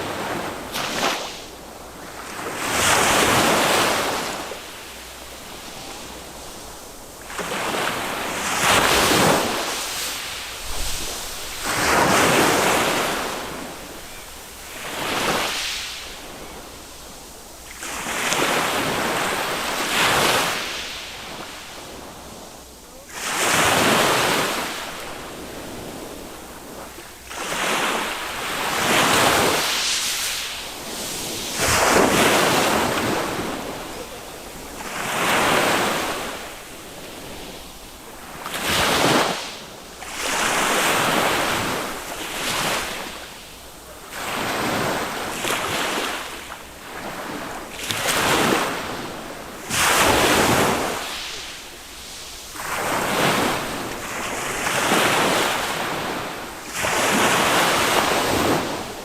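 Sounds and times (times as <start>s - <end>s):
small waves washing on beach: 0.0s - 59.0s.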